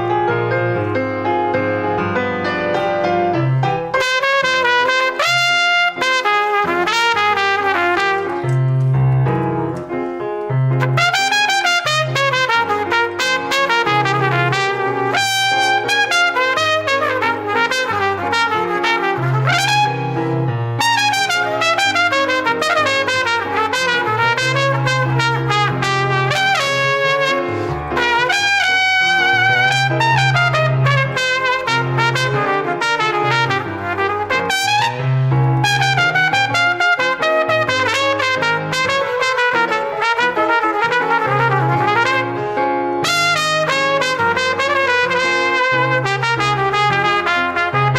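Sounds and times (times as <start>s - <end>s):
brass: 0.0s - 47.9s
trumpet melodic runs: 3.9s - 8.5s, 10.8s - 20.2s, 20.8s - 42.4s, 43.0s - 47.9s.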